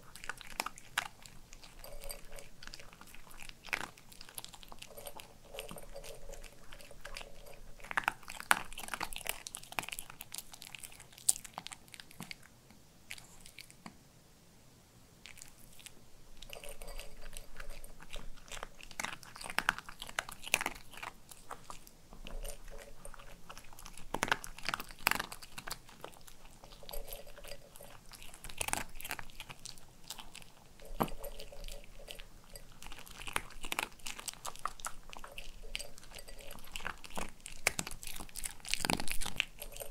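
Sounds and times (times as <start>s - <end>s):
dog crunching dry kibble: 0.0s - 12.5s, 13.1s - 13.9s, 15.2s - 39.9s.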